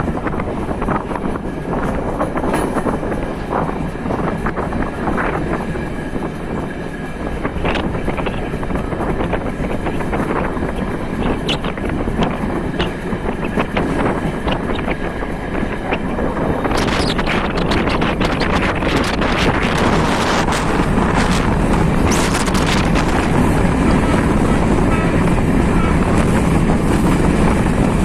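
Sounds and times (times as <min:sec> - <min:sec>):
train wheels rumbling on rail: 0:00.0 - 0:28.0
wind on microphone: 0:00.0 - 0:28.0.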